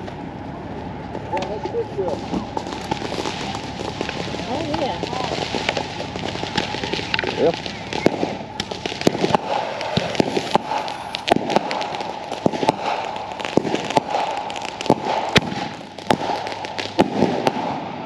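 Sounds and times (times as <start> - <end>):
firecrackers crackling pops: 1.3 - 18.0
fireworks bangs: 1.3 - 18.0.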